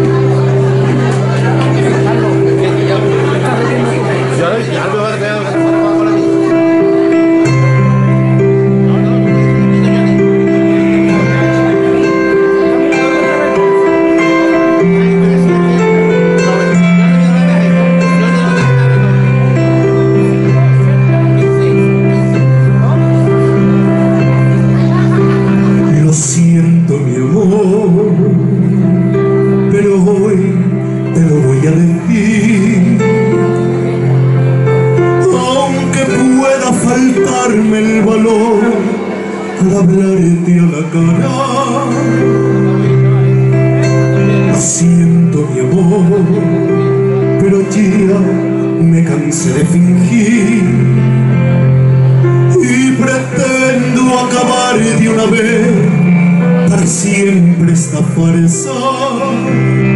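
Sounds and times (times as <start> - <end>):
electronic keyboard chords: 0.0 - 59.9
man singing a slow ballad: 1.2 - 59.9.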